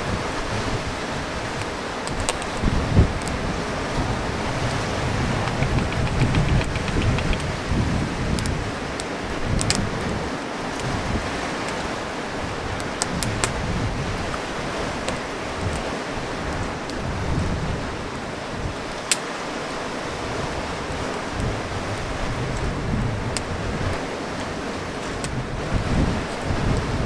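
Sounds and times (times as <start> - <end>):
sea surf rushing: 0.0 - 27.0
wind buffeting microphone: 0.0 - 27.0
campfire crackling: 1.1 - 27.0.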